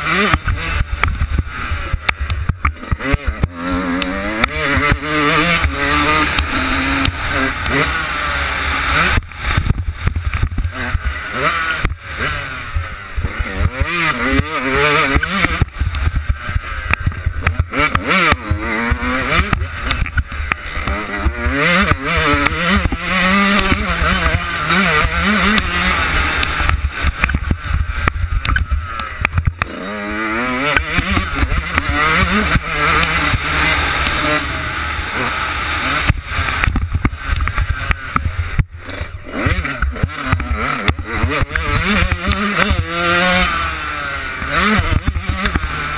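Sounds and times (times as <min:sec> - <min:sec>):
two-stroke engine revving: 0:00.0 - 0:45.9.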